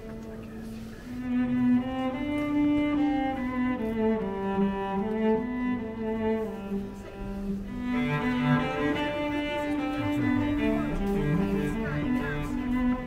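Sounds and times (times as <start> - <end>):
slow cello music: 0.0 - 13.0.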